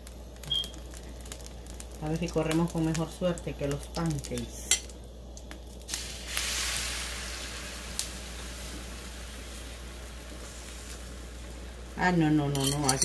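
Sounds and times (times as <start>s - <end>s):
egg sizzling on a griddle: 0.0s - 13.0s.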